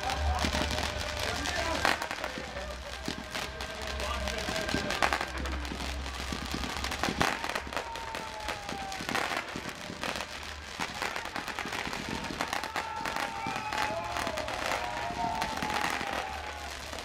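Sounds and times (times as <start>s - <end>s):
fireworks pops and crackles: 0.0s - 17.0s
fireworks whistling: 0.0s - 17.0s.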